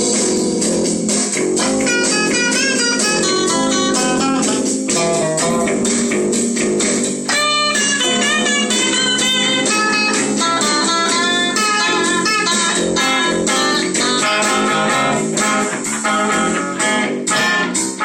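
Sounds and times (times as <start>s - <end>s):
electric guitars blues-rock jam: 0.0s - 18.0s.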